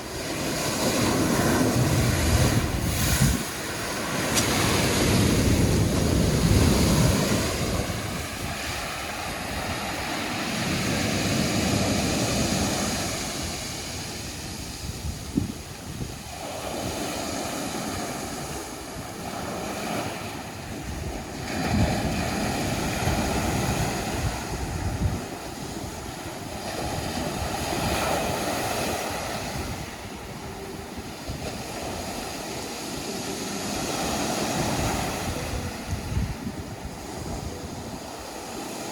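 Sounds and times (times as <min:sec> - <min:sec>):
small sea waves washing: 0:00.0 - 0:38.9
wind buffeting microphone: 0:00.0 - 0:38.9.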